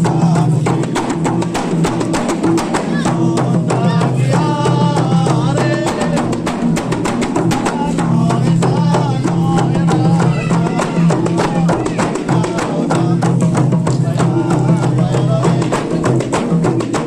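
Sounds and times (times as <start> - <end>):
frame drums beating: 0.0 - 17.0
voices singing: 0.0 - 17.0.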